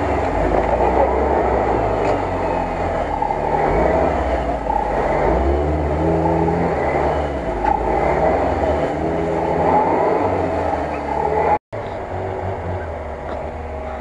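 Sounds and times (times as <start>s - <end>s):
off-road engines revving: 0.0s - 14.0s.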